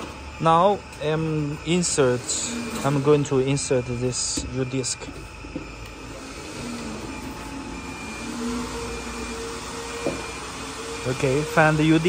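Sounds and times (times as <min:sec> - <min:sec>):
faint humming tones: 0:00.0 - 0:12.0
machinery whirring and hissing: 0:00.0 - 0:12.0.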